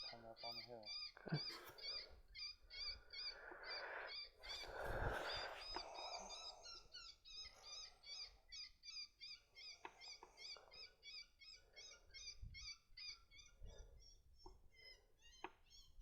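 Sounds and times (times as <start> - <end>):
squeaky animal chirps: 0.0 - 6.0, 6.7 - 16.0.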